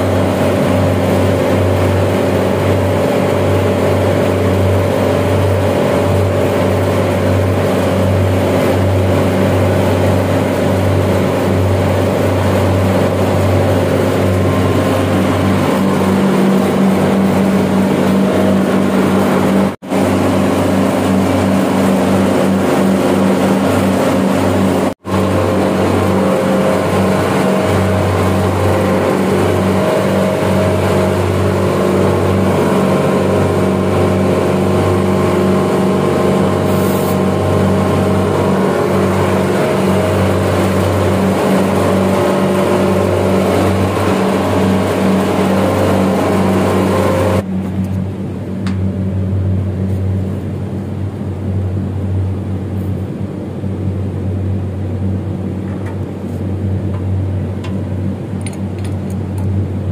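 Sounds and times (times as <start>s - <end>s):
chiller machinery drone: 0.0s - 59.9s.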